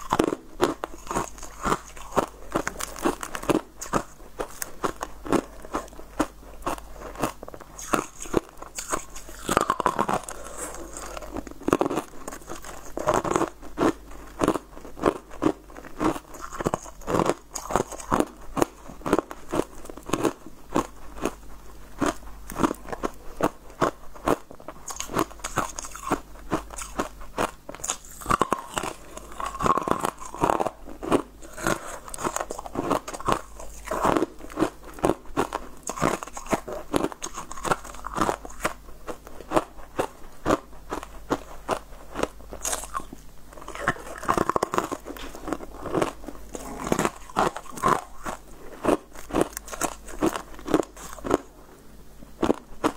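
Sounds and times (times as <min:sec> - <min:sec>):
teeth crunching ice: 0:00.0 - 0:21.4, 0:22.0 - 0:51.5.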